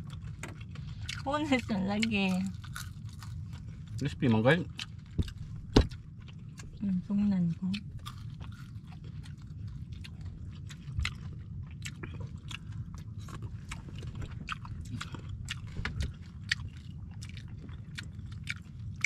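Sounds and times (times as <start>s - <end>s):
person chewing crispy food: 0.0s - 6.9s, 7.5s - 19.0s
low rumble: 0.0s - 19.0s.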